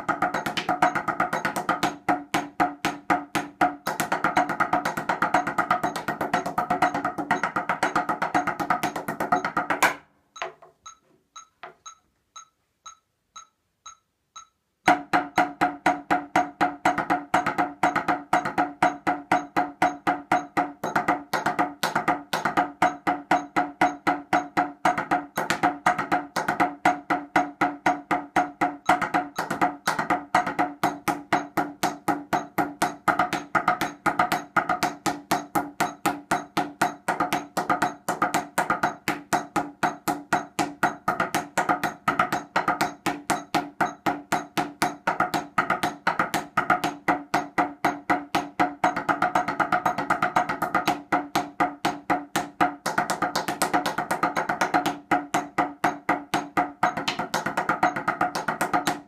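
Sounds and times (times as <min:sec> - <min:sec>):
drumsticks tapping practice pads: 0:00.0 - 0:59.0.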